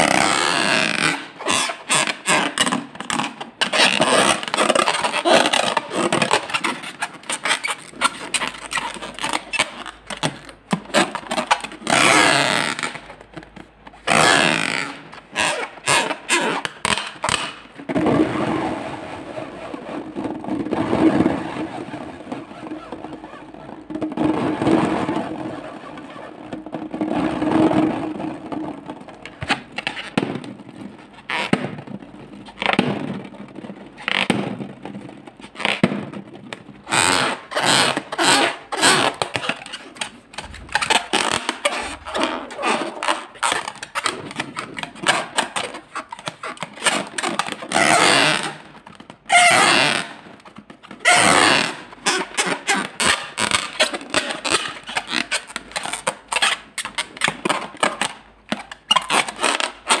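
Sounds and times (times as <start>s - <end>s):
slime balloon squelching: 0.0s - 31.7s, 36.8s - 60.0s.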